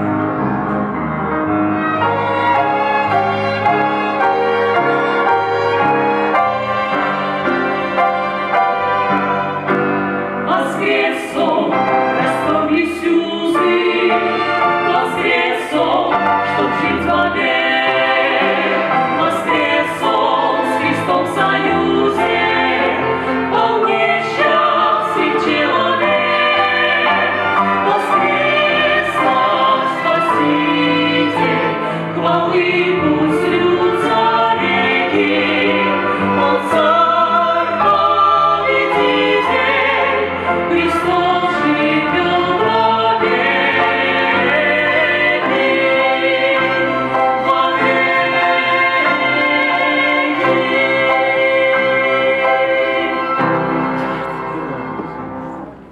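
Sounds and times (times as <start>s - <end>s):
choir singing: 0.0s - 55.9s
musical accompaniment: 0.0s - 55.9s.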